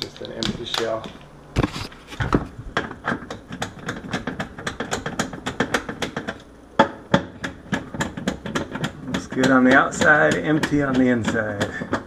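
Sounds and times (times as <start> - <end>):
sharp knocks: 2.3 - 12.0.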